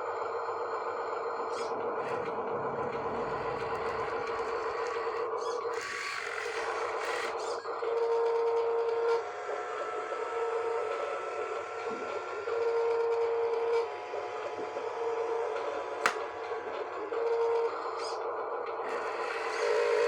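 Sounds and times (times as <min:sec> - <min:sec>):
small electric motor whining: 0:01.3 - 0:18.2, 0:18.8 - 0:20.0.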